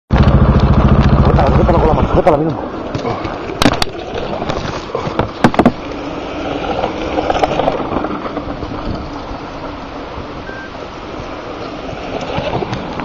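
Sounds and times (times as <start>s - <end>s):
rushing wind: 0.1s - 13.0s.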